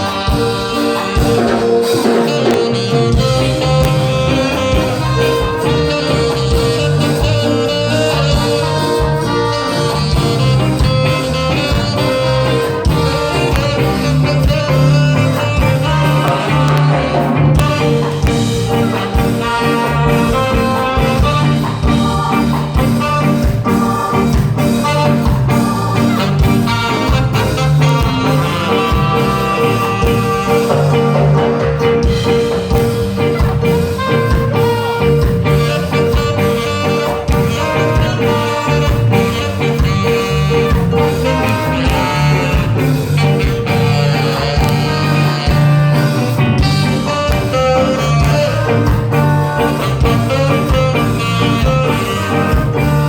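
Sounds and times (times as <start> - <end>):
ska band playing live: 0.0 - 53.0.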